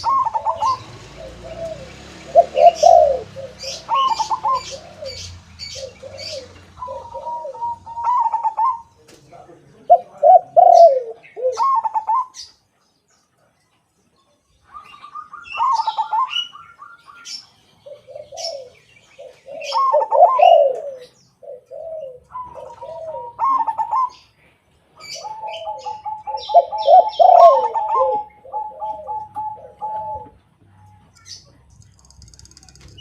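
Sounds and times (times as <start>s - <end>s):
doves cooing: 0.0s - 12.7s, 14.5s - 33.0s.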